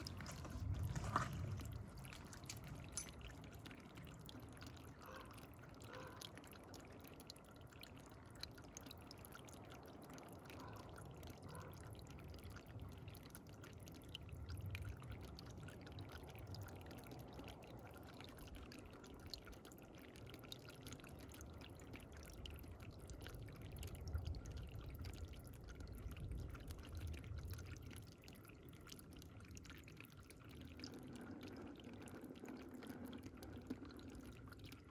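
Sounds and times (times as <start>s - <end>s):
water trickling and dripping: 0.0s - 34.9s.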